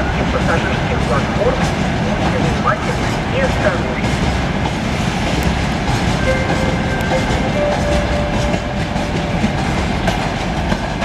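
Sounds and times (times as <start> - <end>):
freight train wheels clattering: 0.0 - 11.0.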